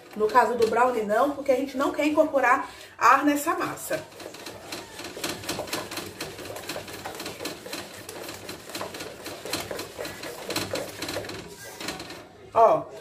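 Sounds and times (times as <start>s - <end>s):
spatula beating mixture in metal bowl: 0.0s - 12.4s.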